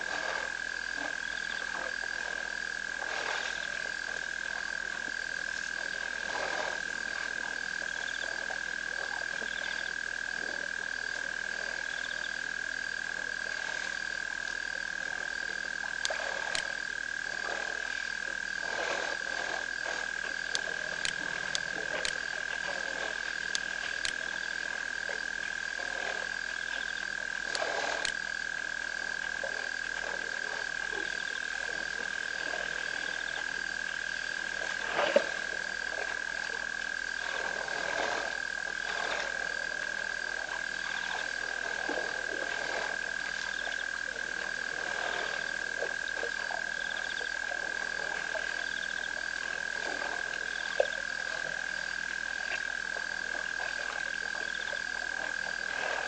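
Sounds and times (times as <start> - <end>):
frog chorus trilling: 0.0 - 56.0.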